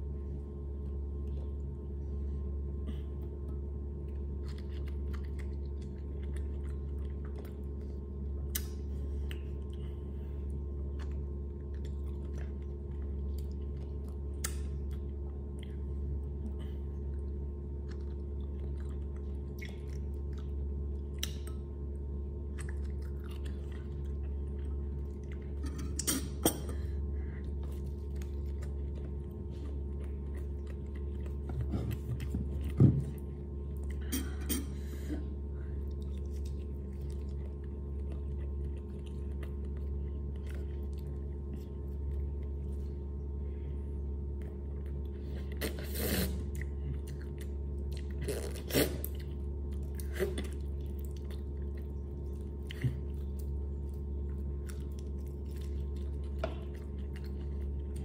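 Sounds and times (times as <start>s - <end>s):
steady low hum: 0.0s - 58.0s
person chewing food: 0.1s - 58.0s.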